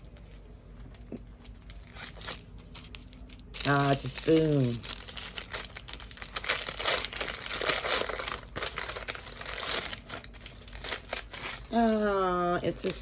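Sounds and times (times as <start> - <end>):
packaging rustling and crackling: 1.0 - 13.0.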